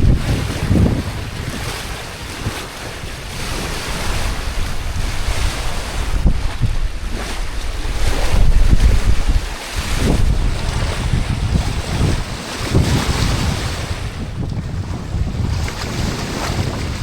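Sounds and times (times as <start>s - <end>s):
sea wash: 0.0s - 17.0s
wind buffeting microphone: 0.0s - 17.0s.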